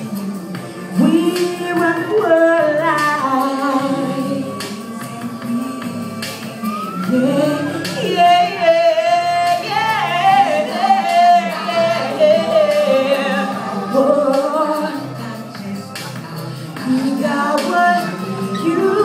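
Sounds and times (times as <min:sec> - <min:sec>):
backing track: 0:00.0 - 0:19.0
woman singing ballad: 0:00.0 - 0:19.0.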